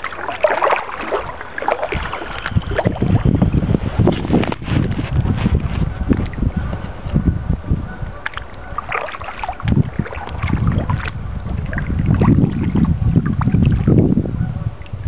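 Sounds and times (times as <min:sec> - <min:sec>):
paddle strokes splashing water: 0:00.0 - 0:07.2, 0:08.1 - 0:14.0.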